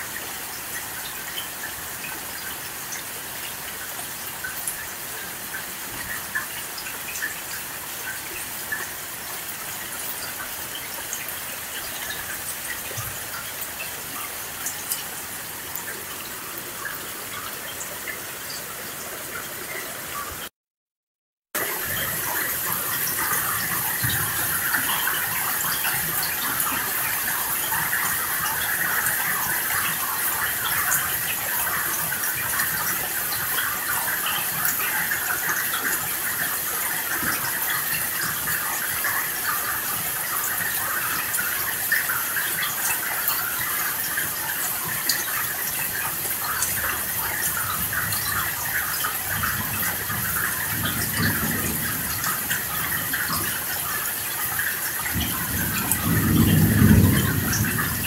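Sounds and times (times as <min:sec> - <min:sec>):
steady rain: 0:00.0 - 0:20.5, 0:21.6 - 0:58.0.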